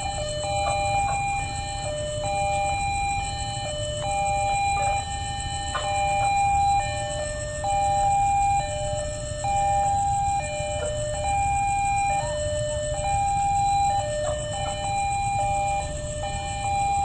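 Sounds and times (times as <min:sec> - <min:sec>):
two-tone crossing alarm: 0:00.0 - 0:17.0.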